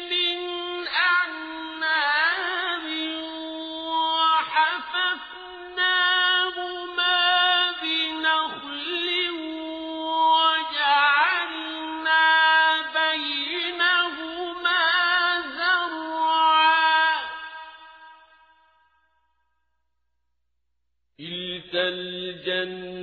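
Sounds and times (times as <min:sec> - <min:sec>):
man reciting melodically: 0:00.0 - 0:17.3, 0:21.2 - 0:23.0.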